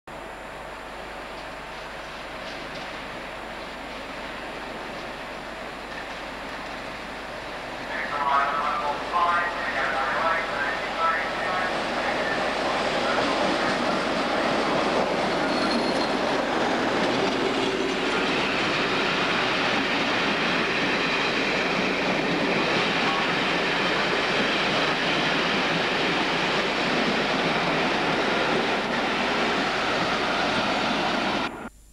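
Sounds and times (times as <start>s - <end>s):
diesel locomotive passing: 0.2s - 31.7s
coaches rolling on rails: 1.3s - 31.5s.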